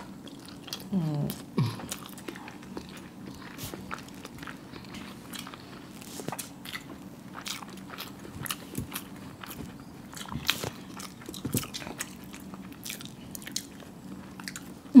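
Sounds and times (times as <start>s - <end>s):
wet chewing and lip smacks: 0.0s - 14.9s
steady low hum: 0.0s - 15.0s.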